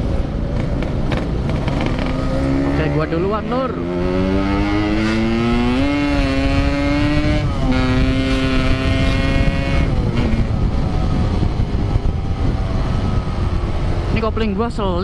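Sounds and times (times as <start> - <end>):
wind rush: 0.0 - 15.0
motorcycle engine accelerating hard: 0.5 - 14.4.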